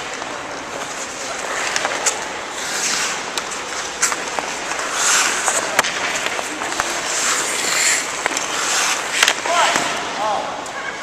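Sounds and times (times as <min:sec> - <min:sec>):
ice skates scraping on ice: 0:00.0 - 0:10.2
hockey sticks clicking on ice: 0:00.0 - 0:10.8.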